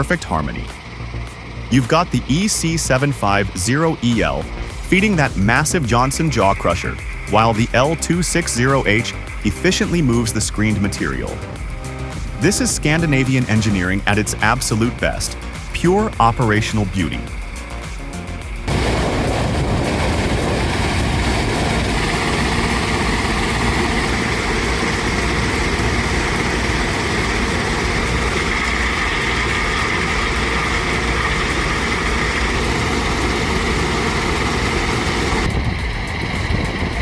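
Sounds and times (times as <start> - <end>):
diesel machinery running: 0.0 - 37.0.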